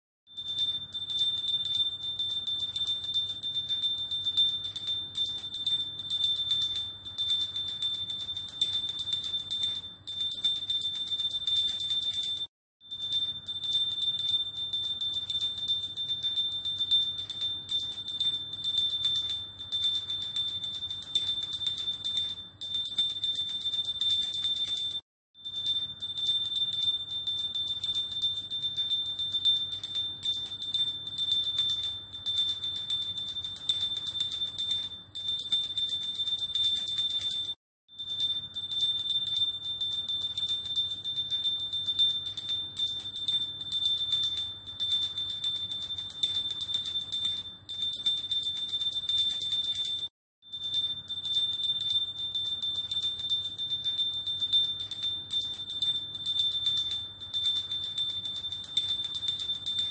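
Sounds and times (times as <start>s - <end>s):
small bell ringing rapidly: 0.3s - 59.9s.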